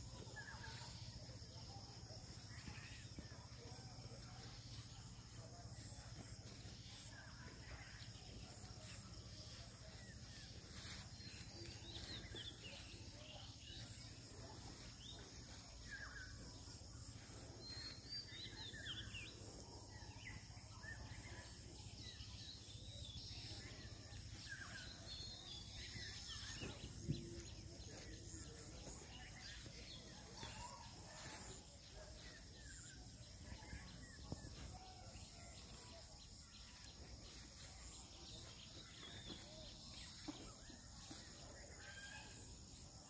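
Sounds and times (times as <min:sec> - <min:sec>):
bird chirps: 0:00.0 - 0:42.4.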